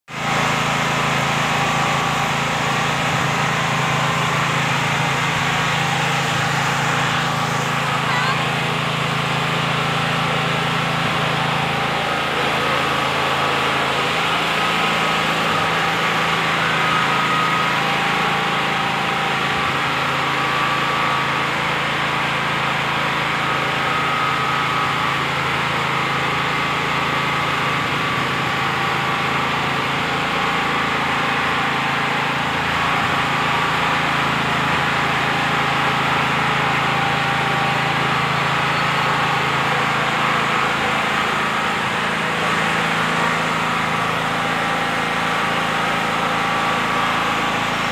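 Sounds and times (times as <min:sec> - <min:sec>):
machine hum with hiss: 0:00.1 - 0:47.9.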